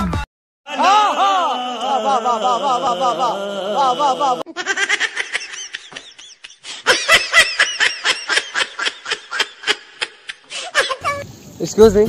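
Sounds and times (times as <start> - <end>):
person laughing: 0.7 - 11.2.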